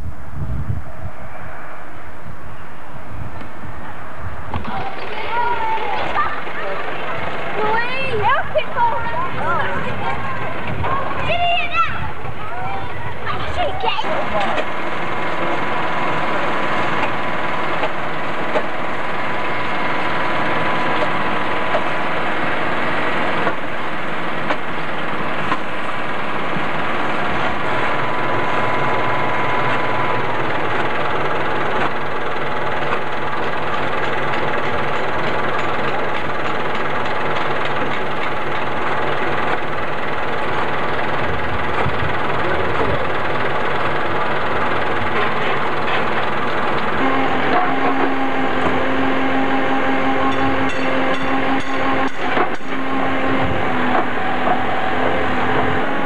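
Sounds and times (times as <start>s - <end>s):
diesel engine idling: 2.6s - 56.0s.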